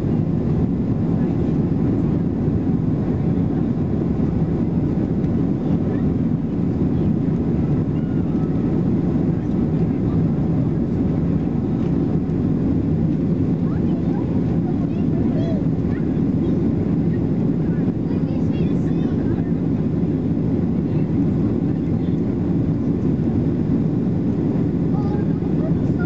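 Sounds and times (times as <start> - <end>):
airliner cabin engine rumble: 0.0 - 26.0.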